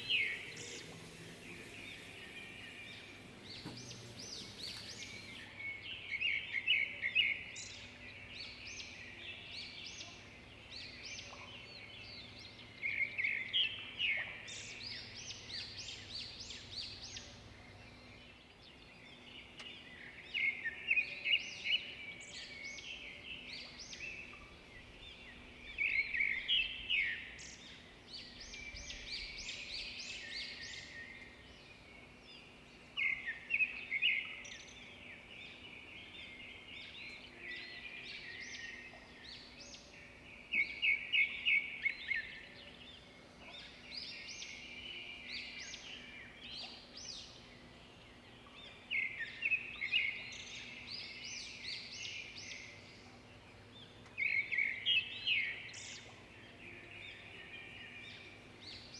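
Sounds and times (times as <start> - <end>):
faint steady hum: 0.0 - 58.9
songbird chirps and trills: 0.0 - 58.9.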